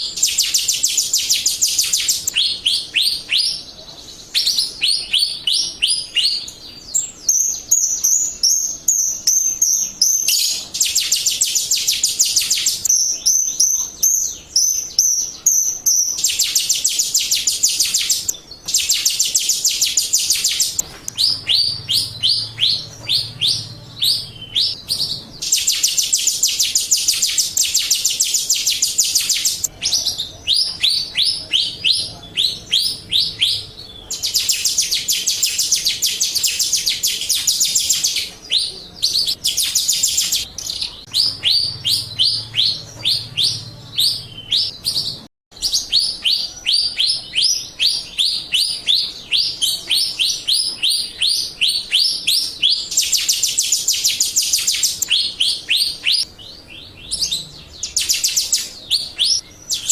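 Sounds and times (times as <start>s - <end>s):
bird chirps: 0.0s - 59.9s
bird singing rattling trills: 0.0s - 59.9s.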